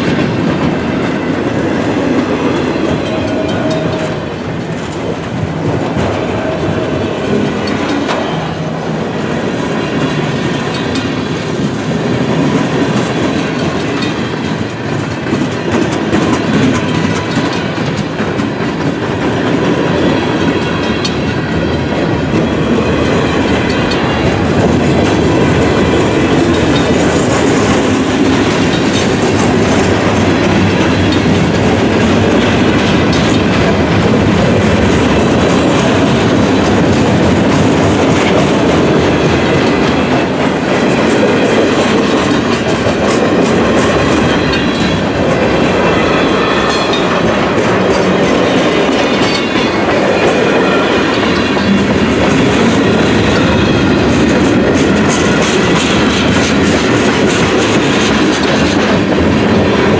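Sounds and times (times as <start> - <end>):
freight train rolling past: 0.0 - 59.9
wheels clacking over rail joints: 0.0 - 59.9.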